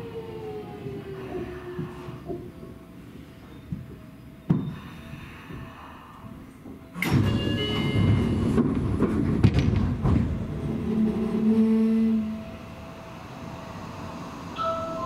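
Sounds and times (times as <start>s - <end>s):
train rail noise with squealing: 0.0s - 9.4s, 10.2s - 15.0s.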